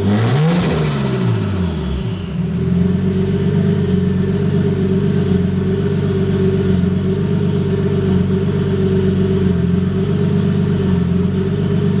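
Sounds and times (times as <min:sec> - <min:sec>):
turbocharged car engine running: 0:00.0 - 0:12.0.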